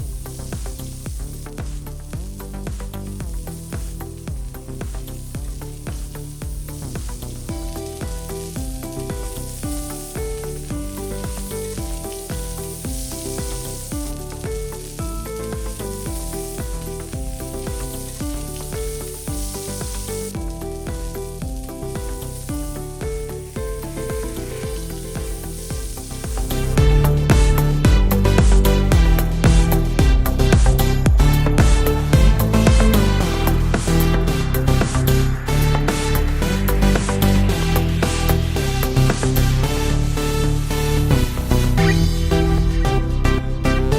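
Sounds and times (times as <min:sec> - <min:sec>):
omelette sizzling in a pan: 0:00.0 - 0:36.8
background music with steady beat: 0:00.0 - 0:43.9.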